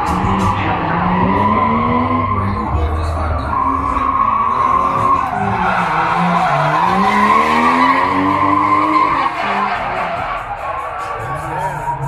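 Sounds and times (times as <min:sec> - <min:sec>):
car engine revving hard: 0:00.0 - 0:12.0
tyres squealing: 0:00.0 - 0:12.0.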